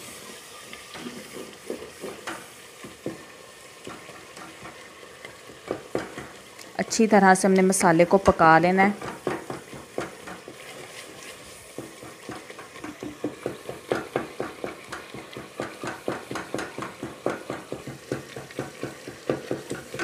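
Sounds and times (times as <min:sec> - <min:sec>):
sauce sizzling in oil: 0:00.0 - 0:20.0
wooden spoon scraping a metal pot: 0:00.8 - 0:06.4, 0:08.9 - 0:20.0.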